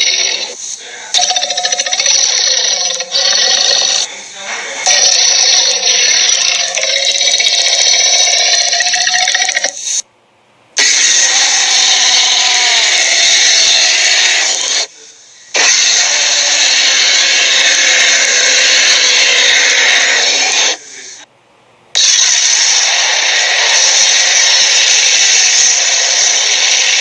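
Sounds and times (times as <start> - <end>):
harsh machine-like cartoon noise: 0.0 - 4.1, 4.8 - 10.0, 10.8 - 14.9, 15.6 - 20.8, 22.0 - 27.0.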